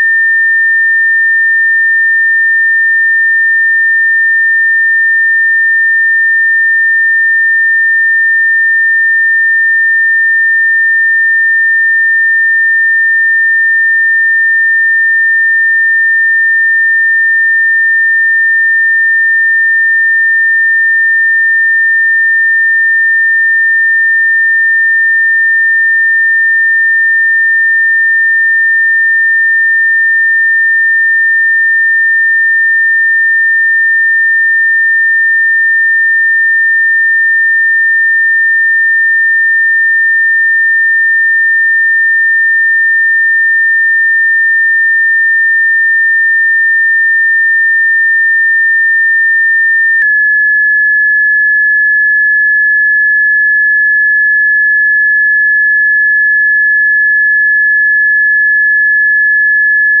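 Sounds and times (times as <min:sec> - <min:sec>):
steady sine tone: 0:00.0 - 1:00.0.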